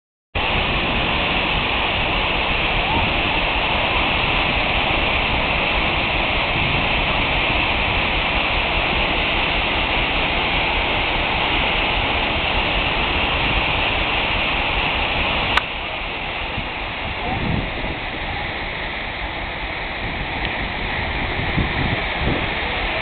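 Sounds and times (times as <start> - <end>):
waterfall rushing: 0.4 - 23.0.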